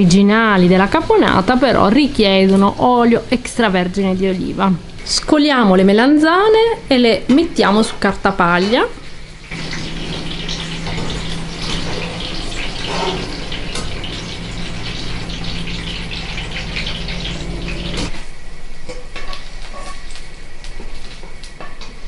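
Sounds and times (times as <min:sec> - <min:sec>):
low steady hum: 0:00.0 - 0:21.9
vegetables sizzling in oil: 0:00.0 - 0:22.0.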